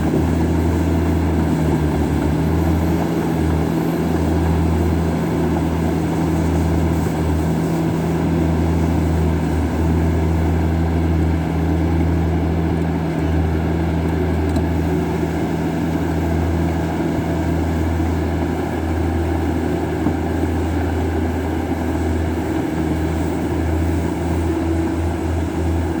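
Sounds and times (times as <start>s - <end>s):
heavy machinery engine droning: 0.0s - 26.0s.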